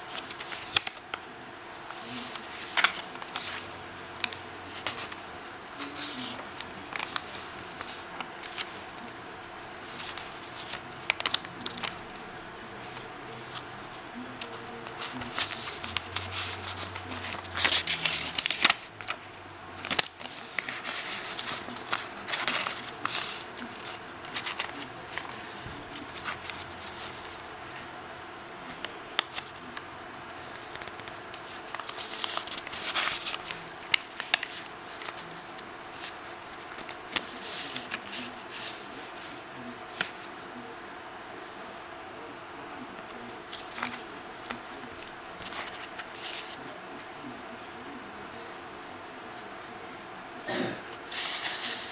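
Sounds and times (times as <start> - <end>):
paper pages rustling: 0.0 - 27.9, 28.6 - 40.7, 42.7 - 49.7, 50.9 - 51.9.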